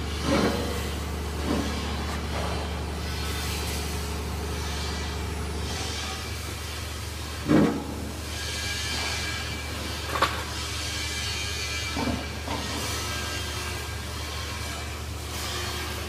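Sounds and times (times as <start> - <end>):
low machine hum with hiss: 0.0 - 16.0.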